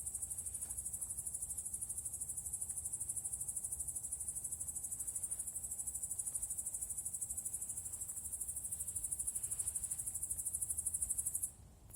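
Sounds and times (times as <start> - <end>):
crickets chirping: 0.0 - 11.6.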